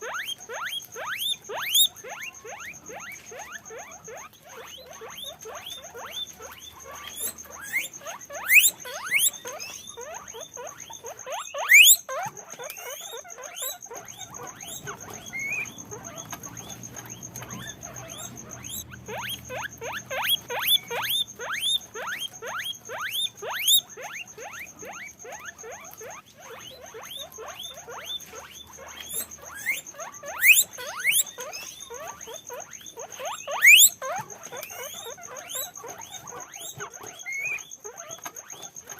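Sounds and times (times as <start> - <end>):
guinea pig rising squeals: 0.0 - 38.9
guinea pigs squeaking: 0.0 - 38.9.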